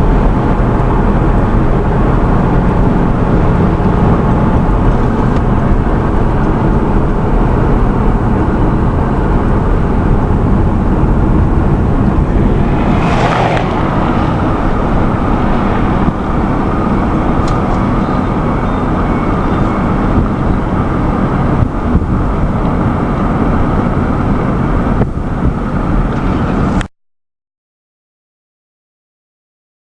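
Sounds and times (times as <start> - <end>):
moving car rumble: 0.0 - 26.9
road and engine noise: 0.0 - 26.9.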